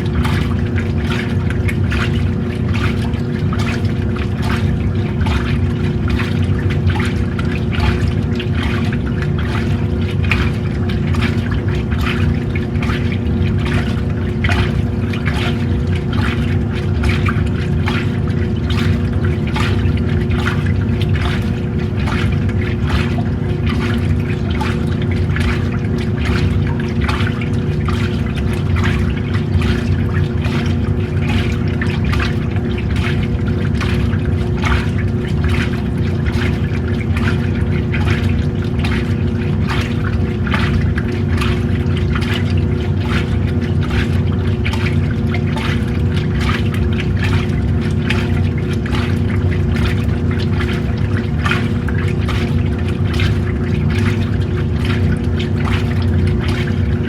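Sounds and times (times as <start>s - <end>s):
washing machine motor hum: 0.0s - 57.0s
water sloshing in tub: 0.0s - 57.0s.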